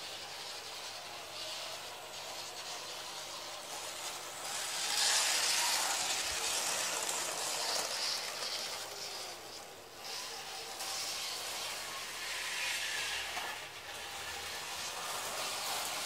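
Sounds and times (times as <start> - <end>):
model train electric motor whirring: 0.0 - 16.0.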